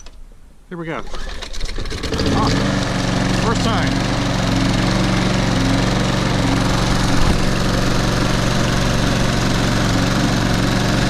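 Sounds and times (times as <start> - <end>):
lawn mower engine running: 1.0 - 11.0.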